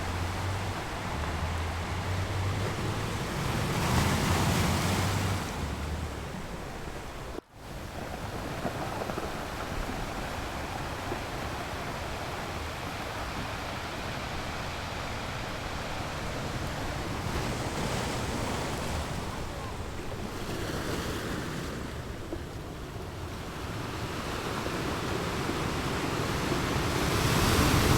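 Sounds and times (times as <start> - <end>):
waves washing onto beach: 0.0 - 27.9.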